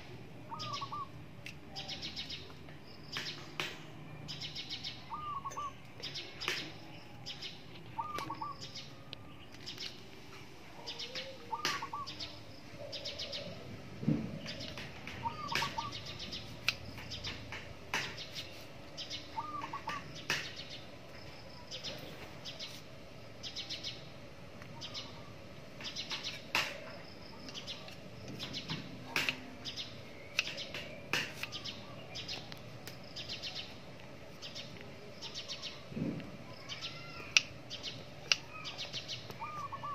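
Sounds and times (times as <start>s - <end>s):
birds chirping and trilling: 0.0s - 35.9s, 36.5s - 39.9s.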